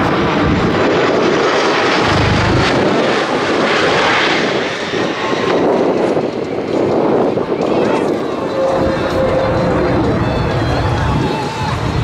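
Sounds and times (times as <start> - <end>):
jet passing overhead: 0.0 - 12.0.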